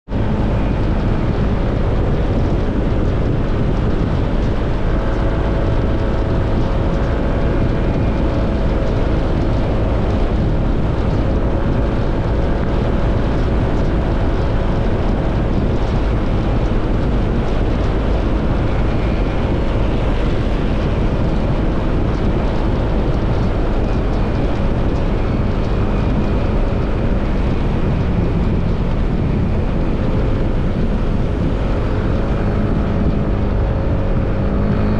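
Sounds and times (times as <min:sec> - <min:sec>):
wind rushing on microphone: 0:00.0 - 0:34.9
motorcycle engine running: 0:00.1 - 0:34.9.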